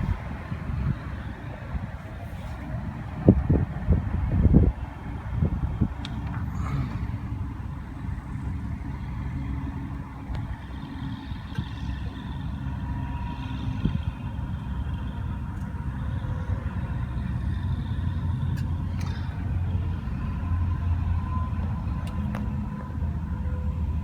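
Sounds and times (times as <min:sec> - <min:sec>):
air conditioning unit rumbling: 0:00.0 - 0:24.0.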